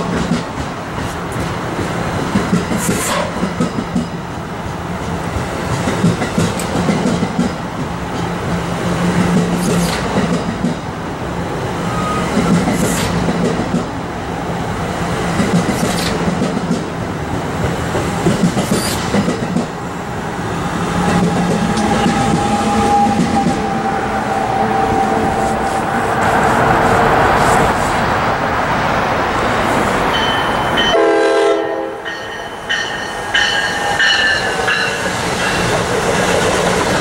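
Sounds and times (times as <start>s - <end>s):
passenger train rolling past: 0.0s - 37.0s.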